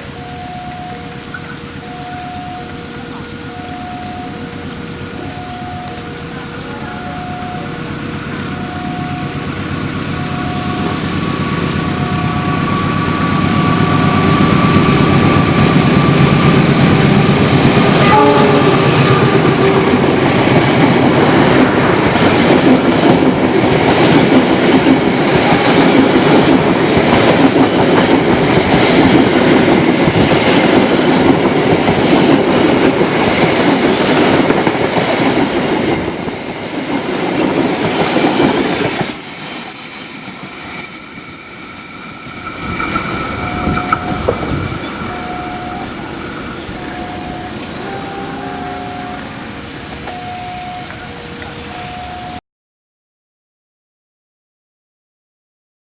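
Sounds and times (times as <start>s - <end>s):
two-note warning tone: 0.0s - 23.4s, 27.4s - 52.4s
passenger train passing: 0.0s - 52.4s.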